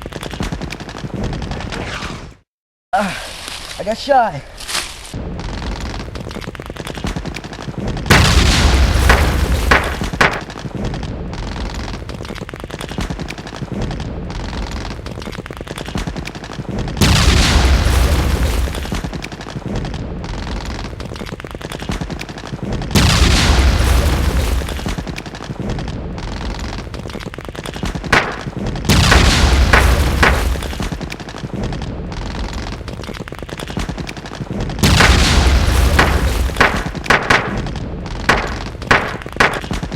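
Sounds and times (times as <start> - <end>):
gunfire and explosions: 0.0 - 2.5, 3.8 - 39.9.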